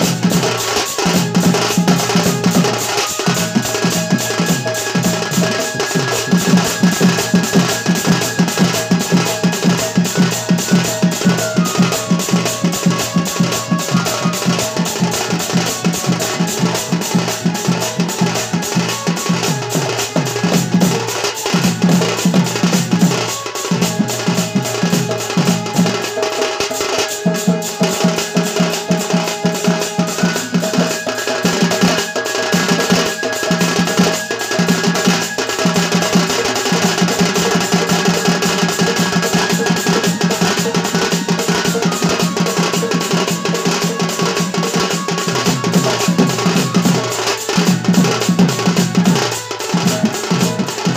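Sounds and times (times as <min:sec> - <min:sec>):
barrel drum fast rhythm: 0:00.0 - 0:50.9
held melody line: 0:00.0 - 0:50.9.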